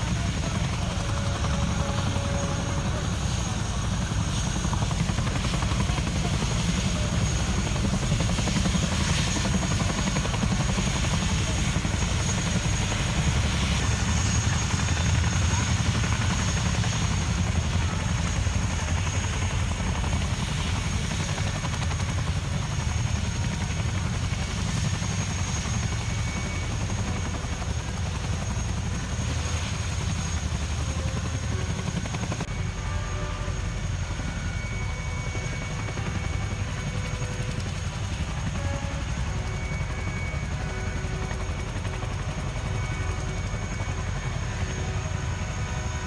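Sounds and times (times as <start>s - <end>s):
helicopter rotor beat: 0.0s - 46.0s
high turbine whine: 0.0s - 46.0s.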